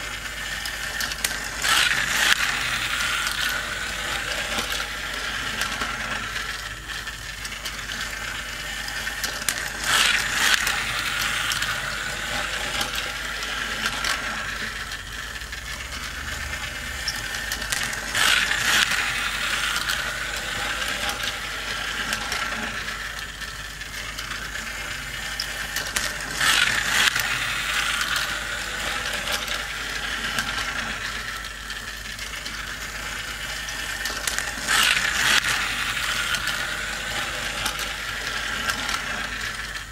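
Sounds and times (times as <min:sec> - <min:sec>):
plastic gears whirring and clicking: 0:00.0 - 0:39.9
toy cars rattling on track: 0:00.0 - 0:39.9.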